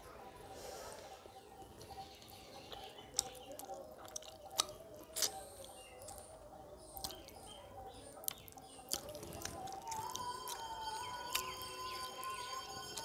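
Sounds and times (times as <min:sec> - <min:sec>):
wet mouth sounds while chewing: 0:01.8 - 0:12.7.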